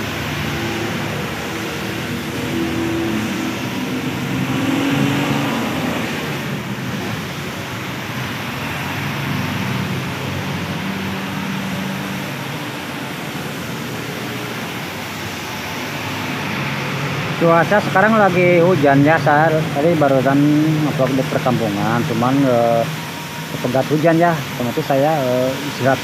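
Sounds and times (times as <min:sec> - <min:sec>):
rain: 0:00.0 - 0:26.0
tyres hissing on wet road: 0:00.0 - 0:26.0
vehicle engines passing: 0:00.0 - 0:26.0.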